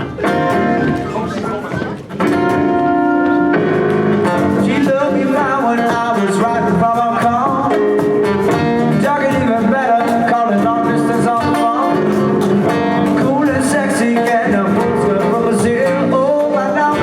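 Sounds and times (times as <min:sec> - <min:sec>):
electric guitar bending notes: 0:00.0 - 0:17.0
live band playing: 0:00.0 - 0:17.0.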